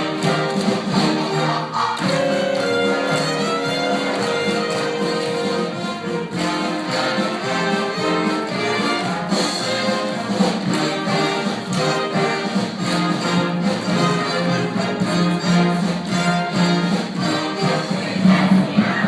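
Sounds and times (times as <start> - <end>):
brass trumpets and trombones: 0.0 - 18.8
orchestra playing show tune: 0.0 - 19.0.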